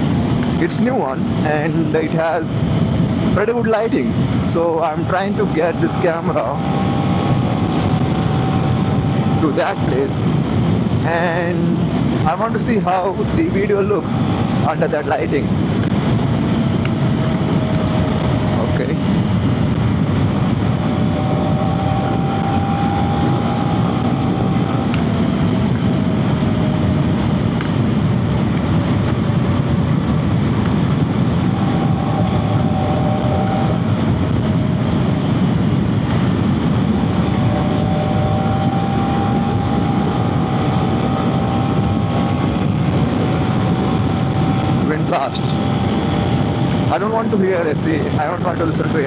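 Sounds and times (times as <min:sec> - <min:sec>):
wind buffeting microphone: 0:00.0 - 0:49.0
motorcycle engine: 0:02.8 - 0:12.3, 0:14.0 - 0:47.0.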